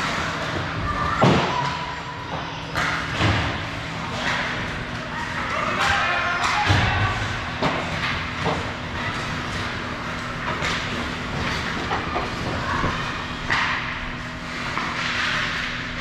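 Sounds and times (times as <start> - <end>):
steady rink hum: 0.0 - 16.0.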